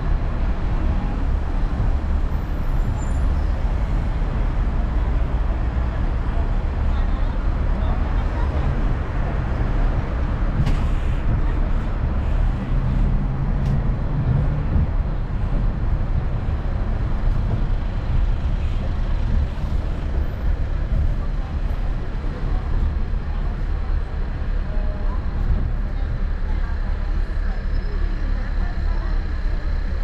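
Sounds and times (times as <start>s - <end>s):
road train engine rumble: 0.0s - 30.0s
tyre noise on street: 0.0s - 30.0s.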